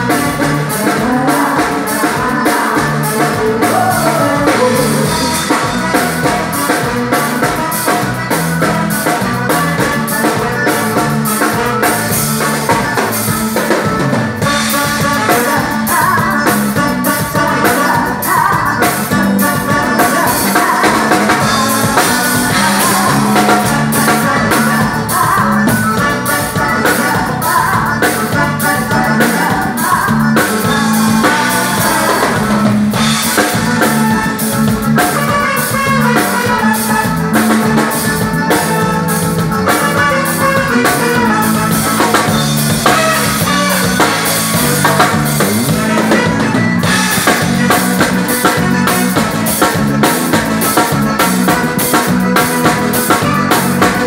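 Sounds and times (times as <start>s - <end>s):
drum kit and percussion beat: 0.0s - 54.0s
live band playing: 0.0s - 54.0s
person singing: 0.0s - 54.0s.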